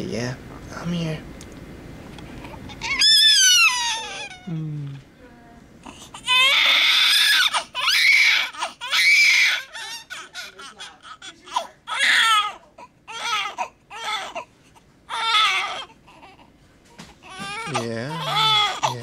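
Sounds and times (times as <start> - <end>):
newborn baby crying: 2.4 - 4.6, 5.8 - 19.0.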